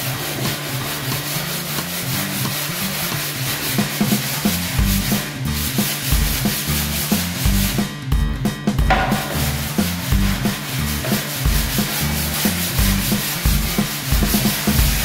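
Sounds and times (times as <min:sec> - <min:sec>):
sandpaper rubbing wood: 0:00.0 - 0:07.9, 0:08.9 - 0:15.0
background music with bass: 0:00.0 - 0:15.0
drum beat: 0:02.5 - 0:15.0.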